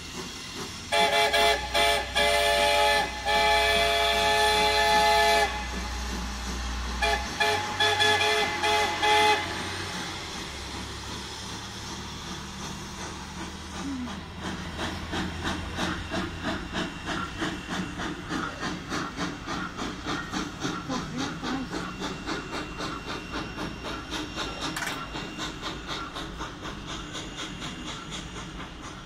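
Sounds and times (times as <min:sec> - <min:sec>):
steam locomotive chuffing: 0:00.0 - 0:29.0.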